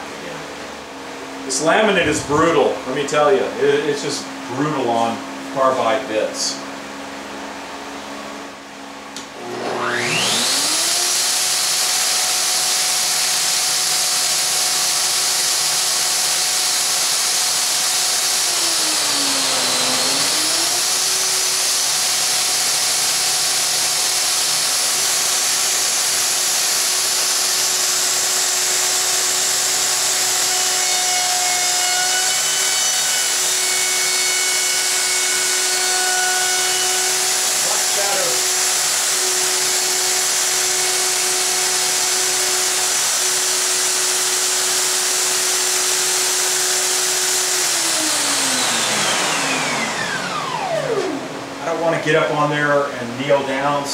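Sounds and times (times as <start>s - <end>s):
router whining: 9.1s - 52.6s.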